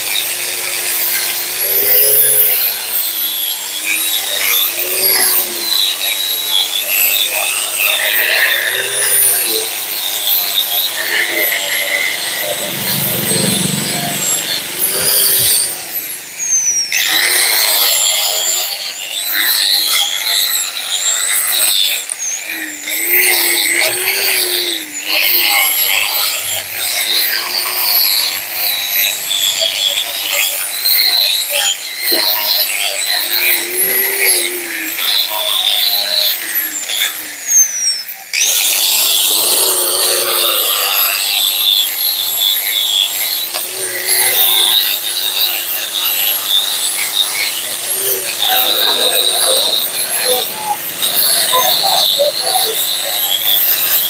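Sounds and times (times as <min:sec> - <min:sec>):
angle grinder grinding metal: 0:00.0 - 0:37.6, 0:38.4 - 0:54.0.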